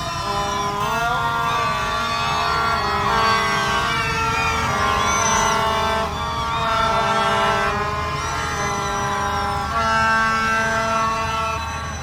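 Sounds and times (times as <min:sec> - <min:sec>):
toy trumpets blowing: 0:00.0 - 0:12.0.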